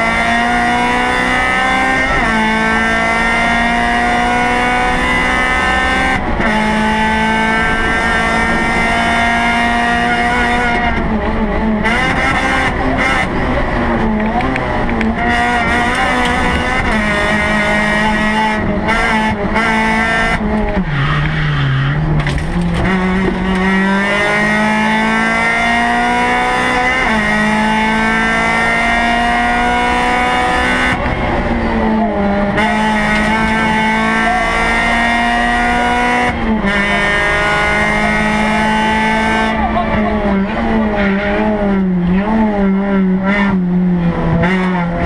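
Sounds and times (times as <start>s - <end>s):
car engine revving through gears: 0.0s - 45.0s.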